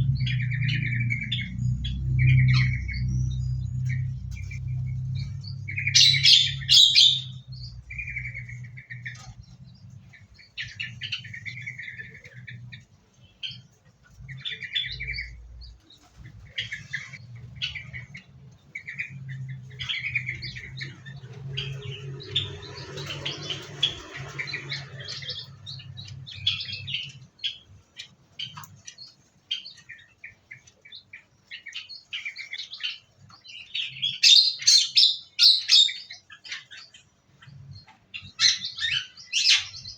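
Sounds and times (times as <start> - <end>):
low steady hum: 0.0 - 34.1
small birds chirping: 0.0 - 39.9.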